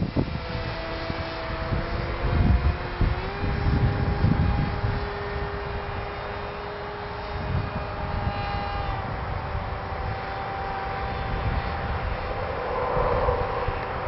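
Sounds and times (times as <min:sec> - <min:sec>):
model airplane motor whining: 0:00.0 - 0:14.0
wind buffeting microphone: 0:00.0 - 0:14.0.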